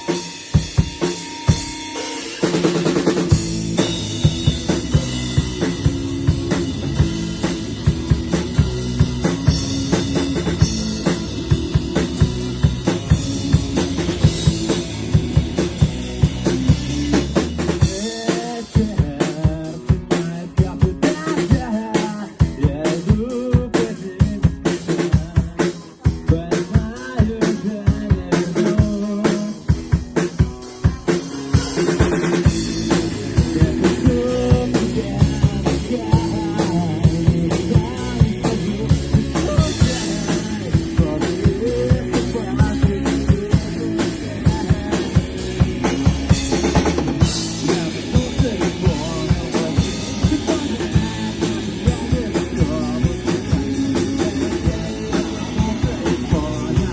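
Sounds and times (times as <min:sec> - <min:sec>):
live band playing: 0:00.0 - 0:56.9.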